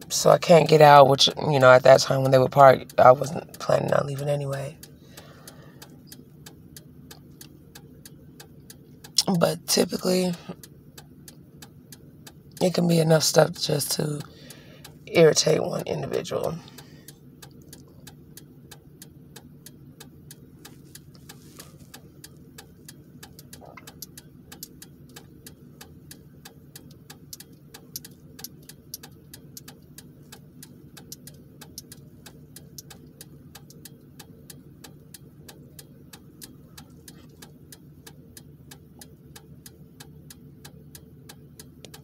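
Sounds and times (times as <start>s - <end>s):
low steady hum: 0.0s - 42.0s
rapid mechanical ticking: 0.0s - 42.0s.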